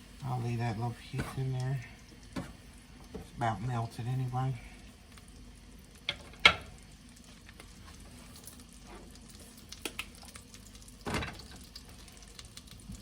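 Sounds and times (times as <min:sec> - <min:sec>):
butter sizzling in a pan: 0:00.0 - 0:13.0.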